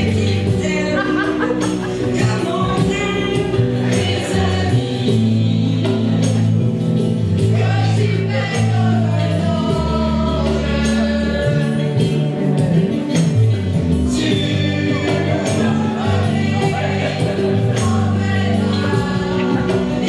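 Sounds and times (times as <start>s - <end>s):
song with singing and bass: 0.0s - 20.0s.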